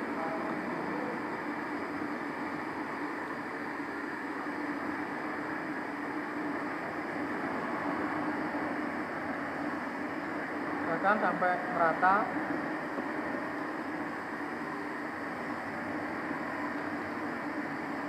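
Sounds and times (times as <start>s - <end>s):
steady rushing noise with low hum: 0.0s - 18.0s.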